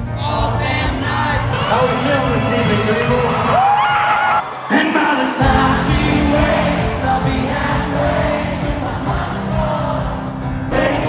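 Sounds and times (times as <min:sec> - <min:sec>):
music with singing: 0:00.0 - 0:03.6, 0:04.7 - 0:11.0.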